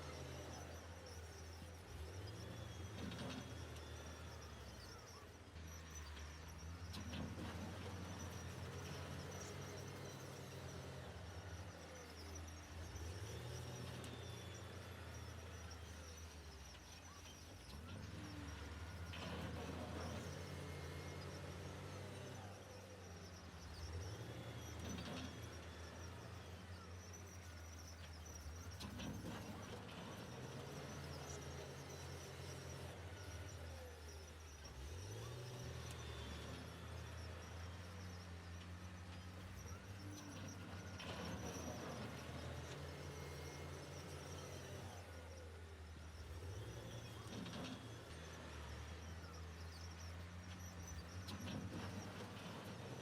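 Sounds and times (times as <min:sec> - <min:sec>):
faint bird chirps: 0:00.0 - 0:53.0
heavy diesel machinery droning: 0:00.0 - 0:53.0.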